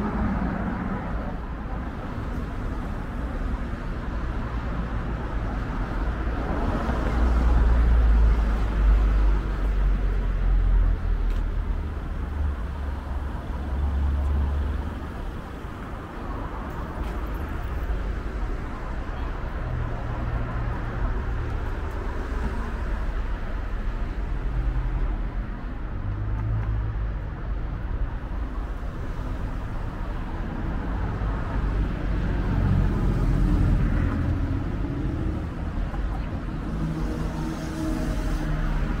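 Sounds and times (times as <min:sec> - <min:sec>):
car engines passing: 0:00.0 - 0:39.0.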